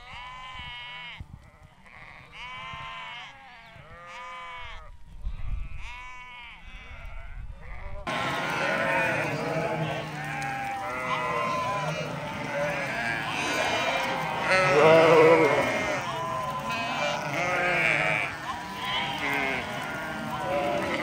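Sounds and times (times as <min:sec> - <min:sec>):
sheep bleating: 0:00.0 - 0:04.9, 0:05.7 - 0:21.0.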